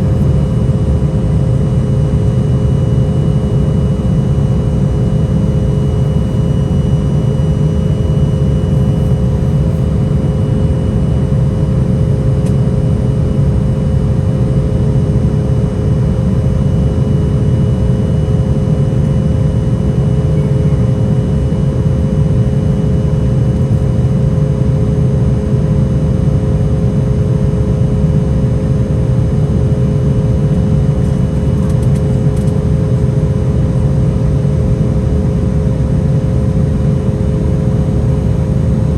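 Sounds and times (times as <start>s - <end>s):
jet cabin deep rumble: 0.0s - 38.9s
jet engine whine: 0.0s - 38.9s.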